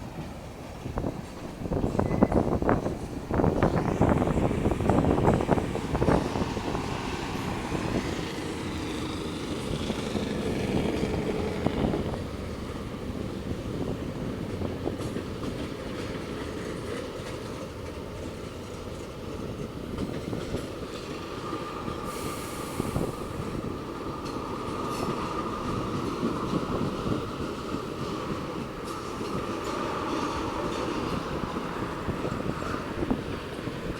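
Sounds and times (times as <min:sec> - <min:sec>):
train cars clattering over rails: 0:00.0 - 0:33.9.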